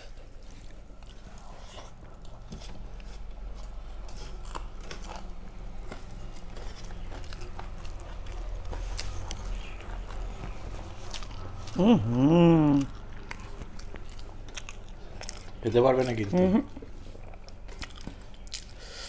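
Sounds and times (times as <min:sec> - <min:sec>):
person chewing food: 0:00.0 - 0:19.0
steady low hum: 0:00.0 - 0:19.0
mouth clicks and crunches: 0:00.7 - 0:18.9.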